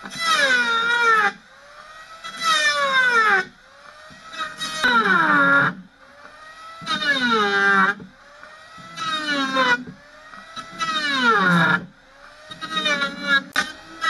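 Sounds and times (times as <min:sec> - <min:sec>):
electric planer cutting wood: 0:00.0 - 0:14.0.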